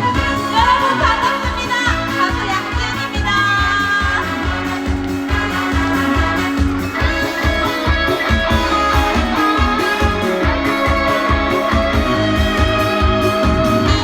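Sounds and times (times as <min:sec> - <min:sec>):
bass: 0:00.0 - 0:14.0
electric guitar: 0:00.0 - 0:14.0
steady drum beat: 0:00.0 - 0:14.0.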